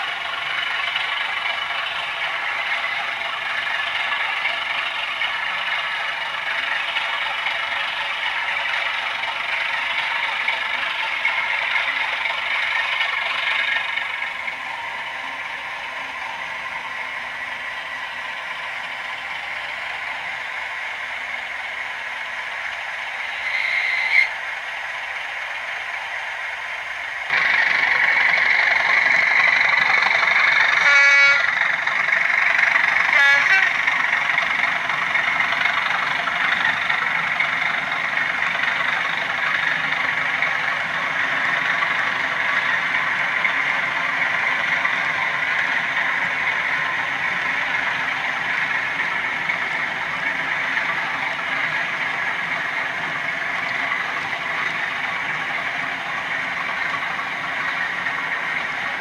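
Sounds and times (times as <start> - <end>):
model train rolling on track: 0.0 - 59.0.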